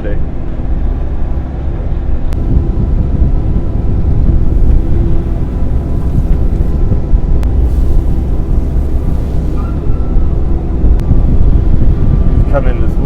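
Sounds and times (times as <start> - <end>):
excavator diesel engine running: 0.2 - 13.0.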